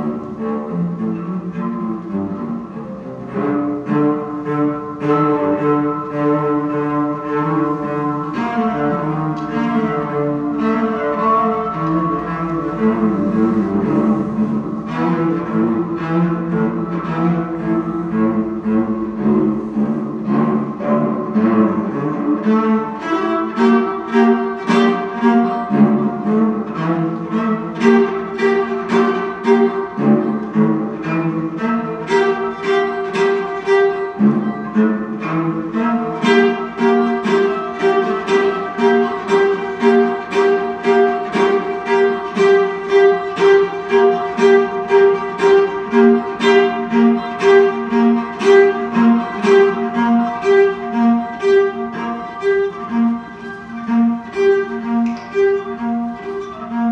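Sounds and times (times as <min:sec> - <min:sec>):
cello bowing short notes: 0:00.0 - 0:56.9.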